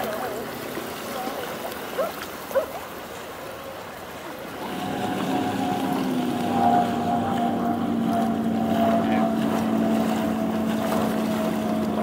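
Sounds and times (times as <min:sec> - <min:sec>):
boat engine droning: 0:00.0 - 0:12.0
water sloshing: 0:00.0 - 0:12.0.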